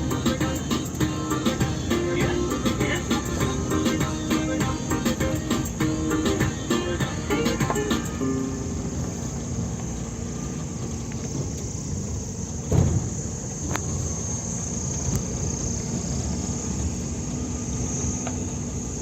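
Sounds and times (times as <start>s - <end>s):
insects buzzing: 0.0s - 19.0s
vehicle jolt: 0.0s - 19.0s
vehicle rumbling on dirt track: 0.0s - 19.0s.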